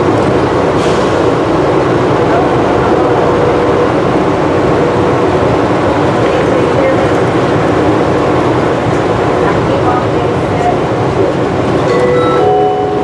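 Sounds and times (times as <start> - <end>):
train rumble and hiss in tunnel: 0.0 - 13.0.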